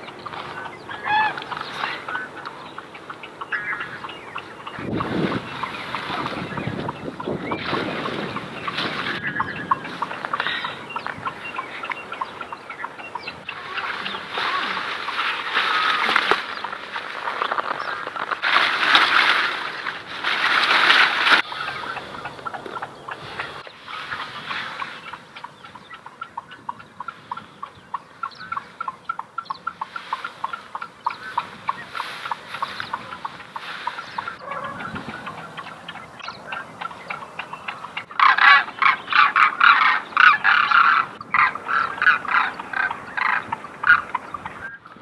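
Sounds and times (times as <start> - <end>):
birds calling: 0.0 - 45.0
steady background noise: 0.0 - 45.0.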